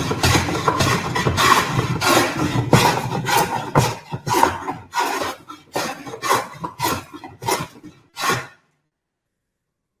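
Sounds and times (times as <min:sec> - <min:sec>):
hand plane rasping wood: 0:00.0 - 0:08.6.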